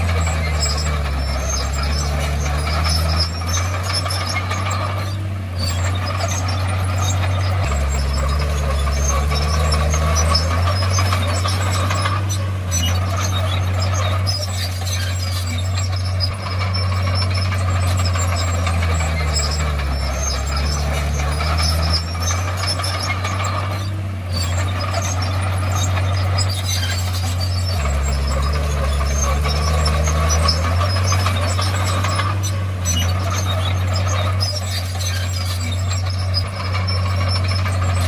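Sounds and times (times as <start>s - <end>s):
bulldozer diesel engine running hard: 0.0s - 38.0s
tracks clattering: 0.0s - 38.0s.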